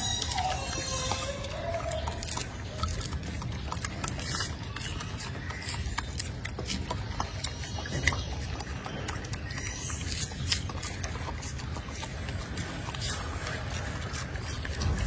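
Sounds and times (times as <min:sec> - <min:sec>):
monkeys crunching food: 0:00.0 - 0:15.0.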